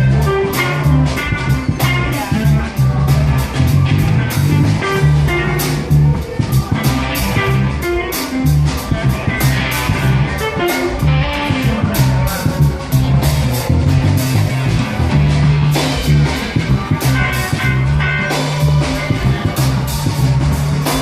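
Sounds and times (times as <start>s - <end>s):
blues-rock band playing: 0.0s - 21.0s.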